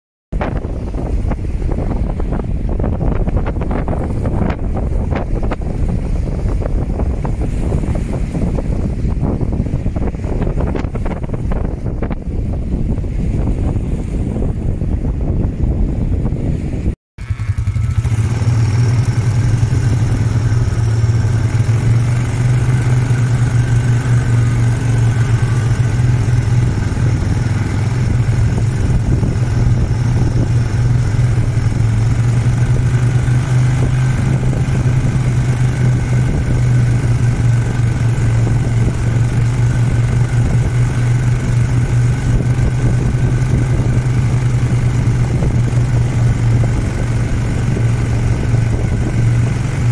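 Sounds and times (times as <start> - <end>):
wind: 0.3 - 49.9
vehicle engine droning: 0.4 - 14.5, 16.4 - 49.9.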